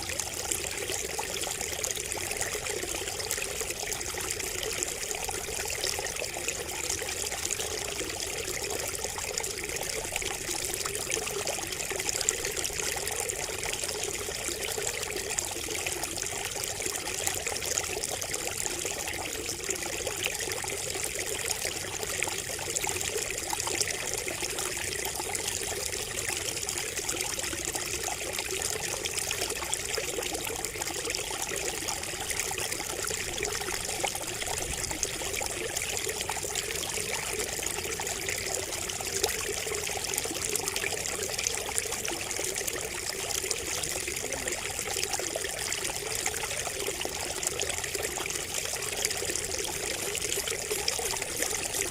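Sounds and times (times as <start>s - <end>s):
water trickling from bamboo spout: 0.0s - 51.9s.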